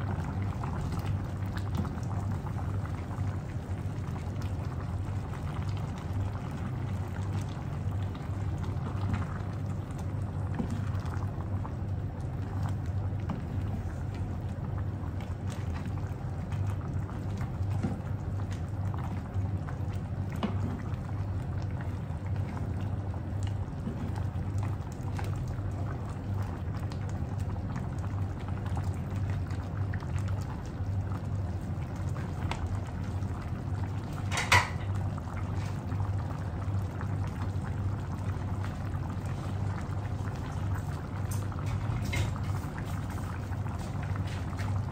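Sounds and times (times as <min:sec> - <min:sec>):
sauce simmering and bubbling: 0:00.0 - 0:44.9.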